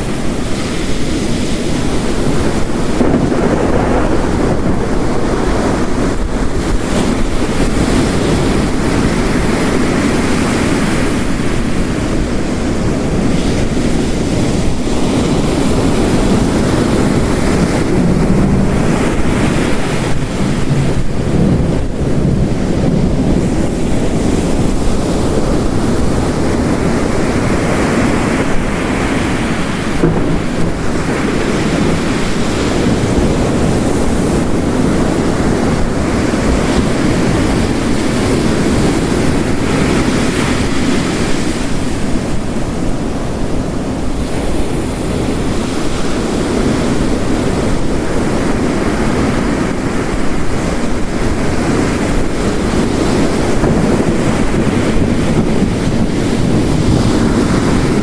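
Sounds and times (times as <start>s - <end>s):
heavy rain: 0.0s - 58.0s
ocean waves crashing: 0.0s - 58.0s.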